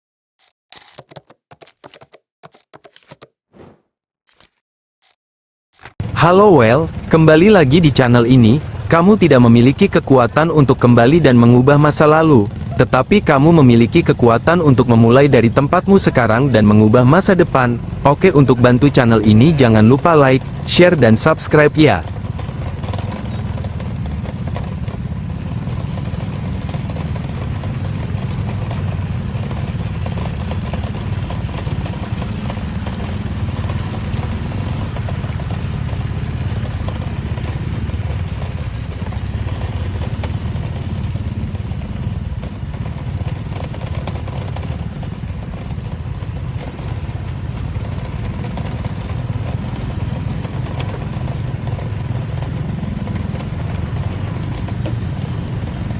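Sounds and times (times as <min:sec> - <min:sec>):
motorcycle engine running: 0:06.0 - 0:55.9.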